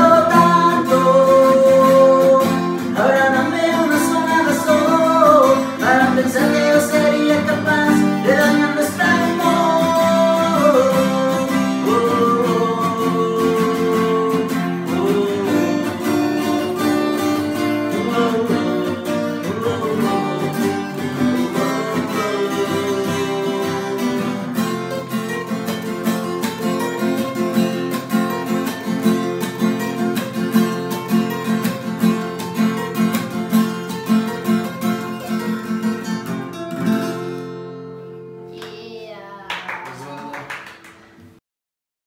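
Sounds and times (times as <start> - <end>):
acoustic guitar duet: 0.0 - 41.4.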